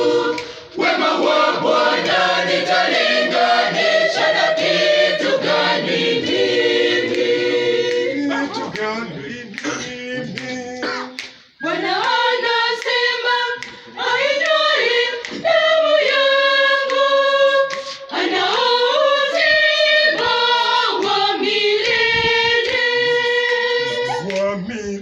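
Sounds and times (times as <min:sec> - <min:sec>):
choir singing a hymn: 0:00.0 - 0:10.4, 0:11.6 - 0:24.6.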